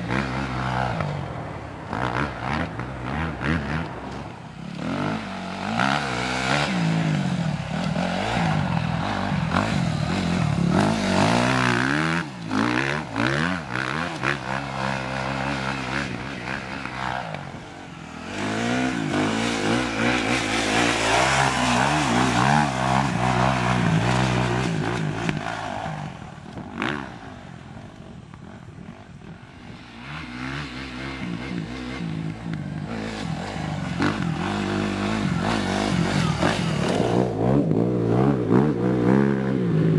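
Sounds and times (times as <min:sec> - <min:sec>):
motocross engine revving: 0:04.7 - 0:27.3, 0:29.9 - 0:39.9.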